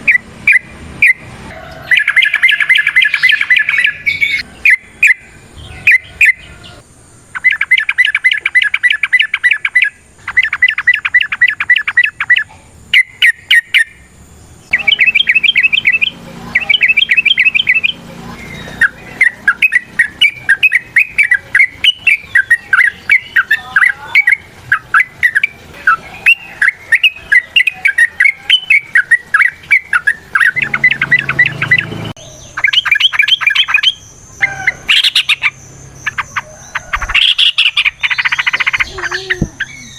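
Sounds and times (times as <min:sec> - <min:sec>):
bulbul calling: 0:00.0 - 0:39.9.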